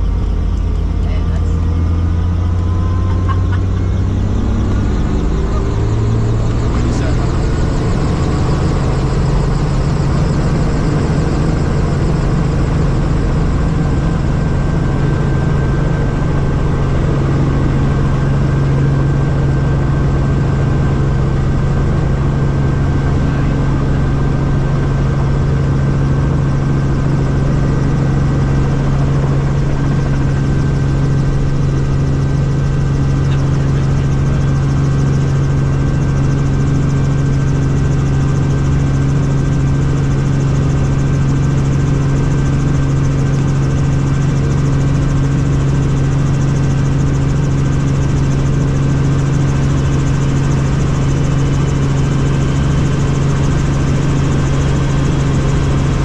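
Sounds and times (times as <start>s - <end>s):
helicopter engine and rotor: 0.0s - 56.0s
thin steady whine: 0.0s - 56.0s.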